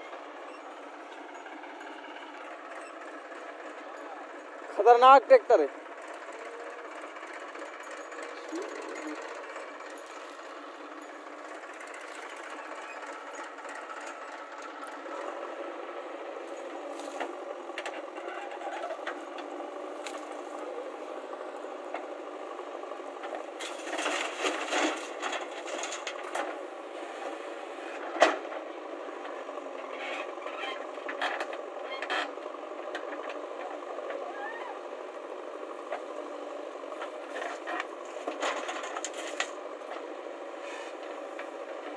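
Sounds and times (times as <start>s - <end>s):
diesel engine running: 0.0s - 41.9s
backhoe arm and bucket clanking: 5.8s - 41.9s.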